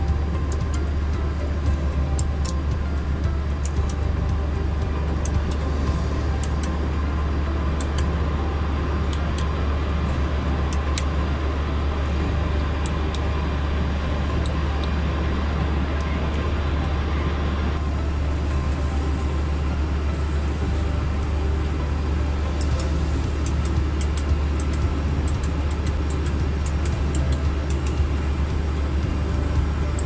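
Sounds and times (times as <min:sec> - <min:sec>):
cockpit systems hum: 0:00.0 - 0:30.0.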